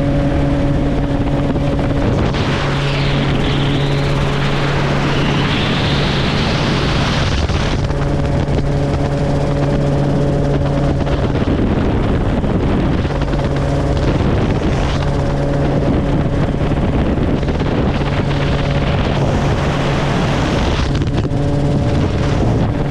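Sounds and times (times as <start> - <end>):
helicopter engine and rotor hum: 0.0 - 22.9
wind rushing: 0.0 - 22.9.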